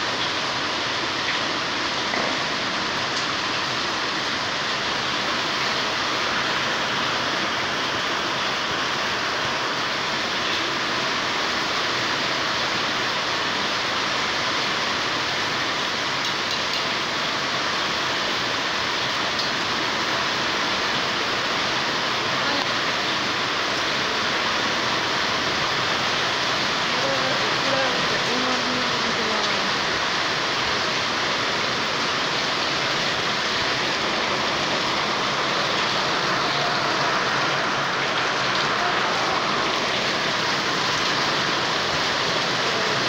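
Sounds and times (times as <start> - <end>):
heavy rain on concrete: 0.0 - 43.0.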